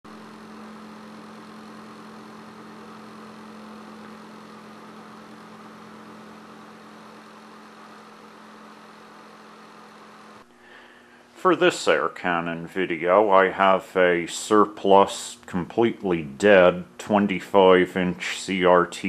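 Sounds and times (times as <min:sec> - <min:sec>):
low hum with hiss: 0:00.1 - 0:19.0.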